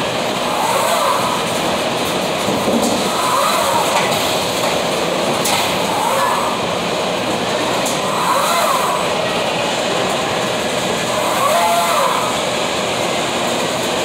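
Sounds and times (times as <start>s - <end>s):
loud mechanical running noise: 0.0s - 14.0s.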